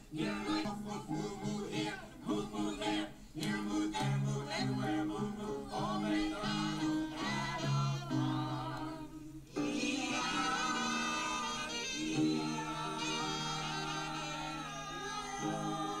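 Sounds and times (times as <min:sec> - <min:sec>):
group singing children's song: 0:00.0 - 0:16.0.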